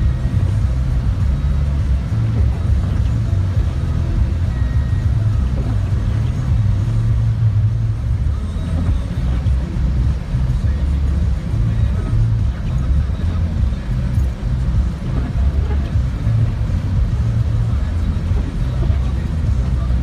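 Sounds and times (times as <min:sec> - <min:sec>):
car cabin engine and tyre rumble: 0:00.0 - 0:20.0.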